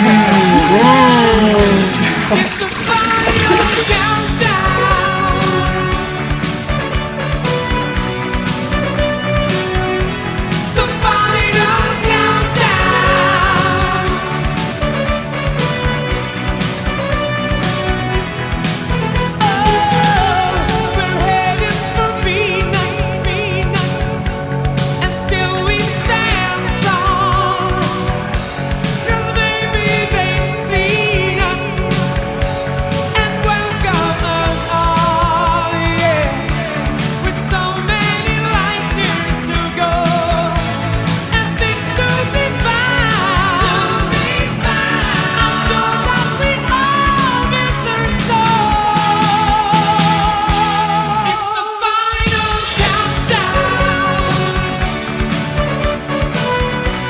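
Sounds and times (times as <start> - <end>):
rock song with vocals and band: 0.0 - 57.0.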